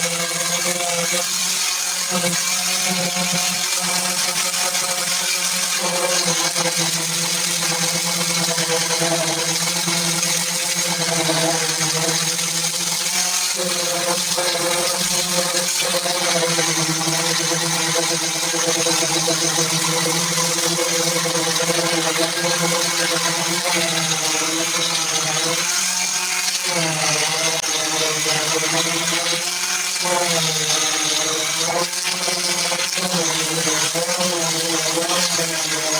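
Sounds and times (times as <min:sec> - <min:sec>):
power tool whining on metal: 0:00.0 - 0:35.9.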